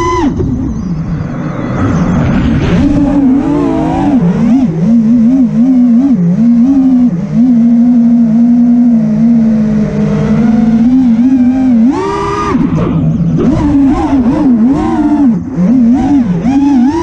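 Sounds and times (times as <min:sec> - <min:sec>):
quadcopter motors whining: 0:00.0 - 0:01.2, 0:02.7 - 0:17.0.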